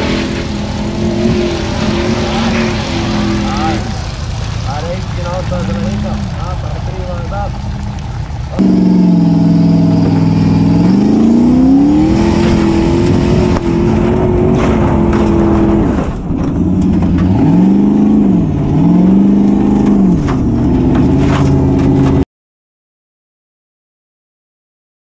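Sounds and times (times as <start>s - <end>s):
gravel hitting car: 0.0s - 8.7s, 10.0s - 17.9s, 18.5s - 22.2s
buggy engine revving: 0.0s - 22.2s.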